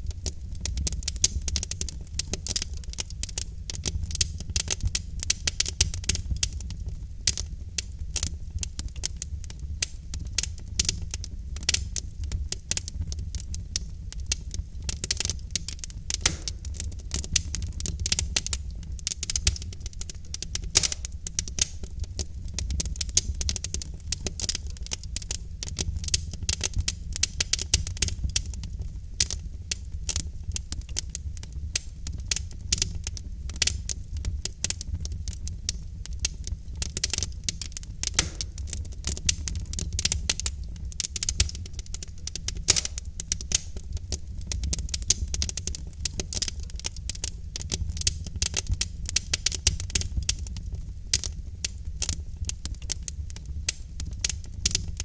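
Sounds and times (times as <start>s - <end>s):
low rumble of burning logs: 0.0s - 55.0s
wood fire crackling and popping: 0.0s - 55.0s.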